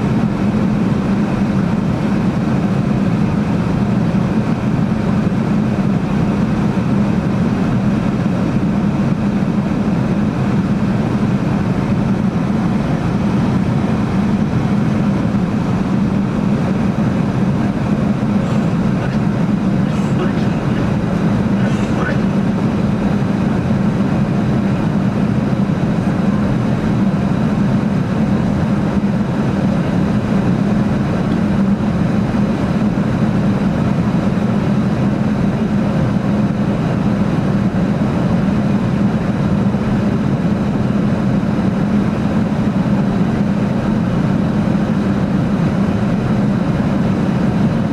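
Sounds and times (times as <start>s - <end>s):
airliner cabin drone: 0.0s - 47.9s.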